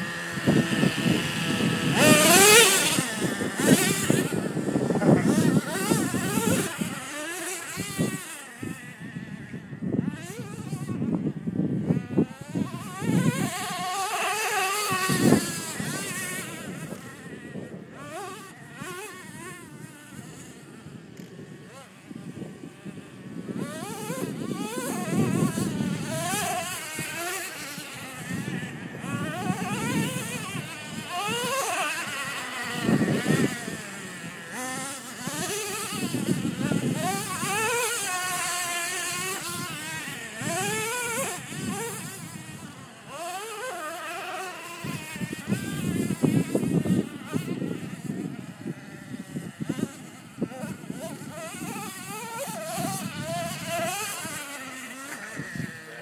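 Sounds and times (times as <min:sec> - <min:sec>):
toy truck motor whining: 0:00.0 - 0:56.0.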